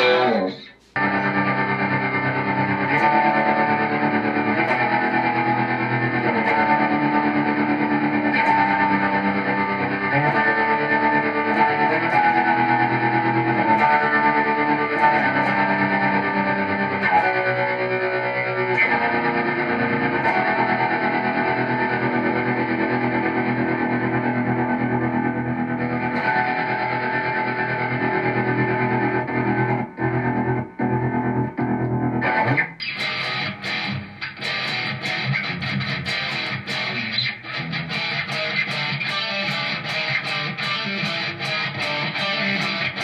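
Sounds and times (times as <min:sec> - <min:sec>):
electric guitar notes and chords: 0:00.0 - 0:43.0.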